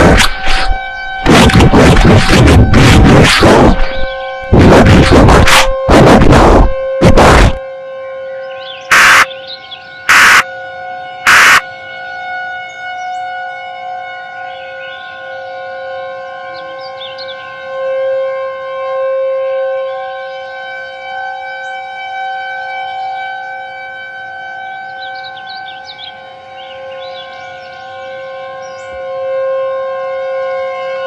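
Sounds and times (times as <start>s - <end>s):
warning siren multi-tone chord: 0.0s - 31.0s.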